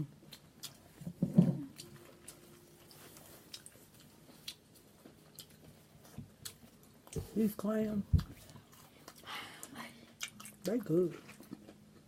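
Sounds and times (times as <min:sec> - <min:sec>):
wet chewing and lip-smacking: 0:00.2 - 0:01.0, 0:01.6 - 0:07.3, 0:08.2 - 0:12.0.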